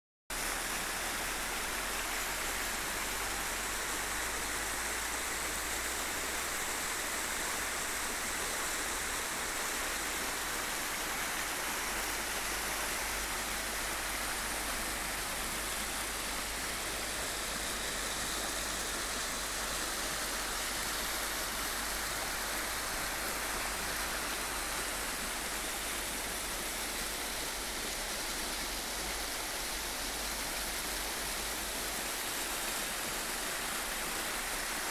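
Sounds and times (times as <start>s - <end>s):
river water rushing over stones: 0.3s - 34.9s.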